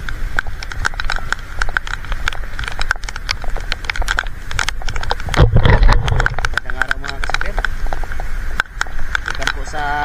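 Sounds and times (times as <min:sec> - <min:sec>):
raindrops ticking on microphone: 0:00.0 - 0:10.0
wind rumble on microphone: 0:00.0 - 0:10.0.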